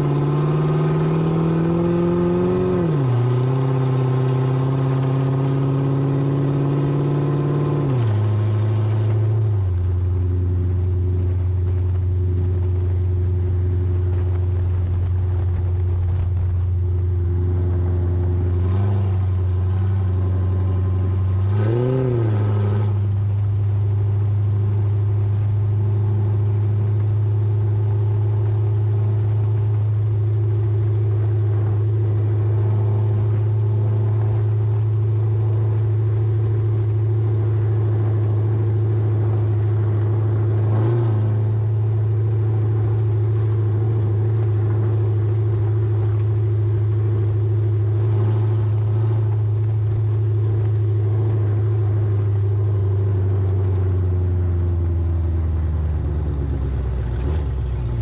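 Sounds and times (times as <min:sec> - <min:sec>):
car drivetrain and exhaust drone: 0:00.0 - 0:58.0
tyre and road noise: 0:00.0 - 0:58.0.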